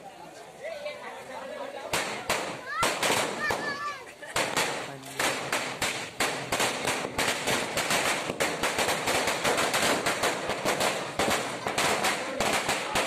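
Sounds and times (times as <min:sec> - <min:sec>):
firecrackers banging: 0:01.8 - 0:13.0.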